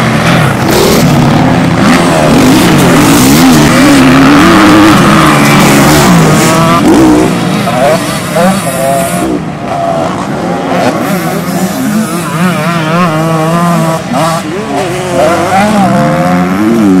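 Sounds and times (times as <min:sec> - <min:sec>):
motorbike engines revving: 0:00.0 - 0:17.0.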